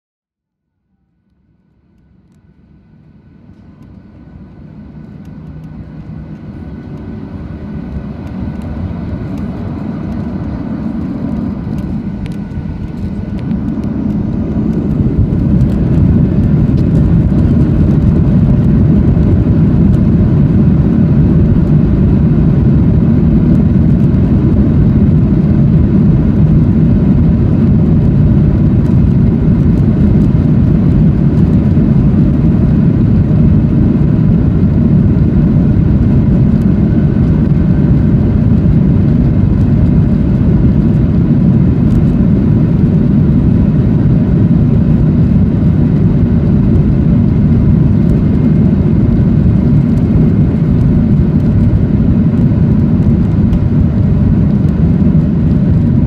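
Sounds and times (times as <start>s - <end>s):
jet engines rumbling in cabin: 0.6s - 56.0s.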